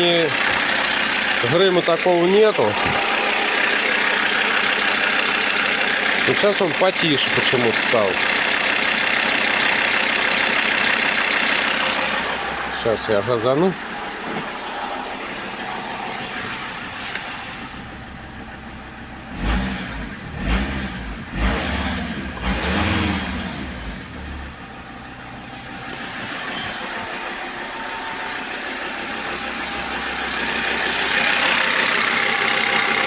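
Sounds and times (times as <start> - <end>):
engine revving: 0.0 - 17.9, 19.2 - 24.6, 25.5 - 33.0
diesel engine idling: 0.0 - 33.0
engine ticking: 0.0 - 33.0.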